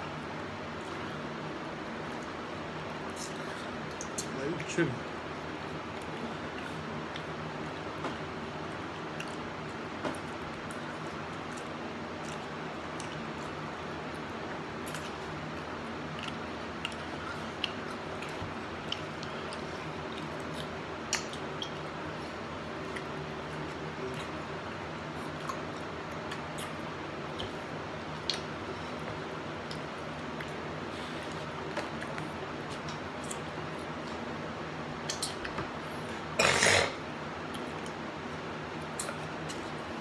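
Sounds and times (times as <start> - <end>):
steady low hum: 0.0 - 40.0
chewing and lip smacking: 1.8 - 4.4, 5.4 - 8.0, 8.6 - 34.2, 35.0 - 36.2, 37.5 - 38.0, 38.7 - 39.8.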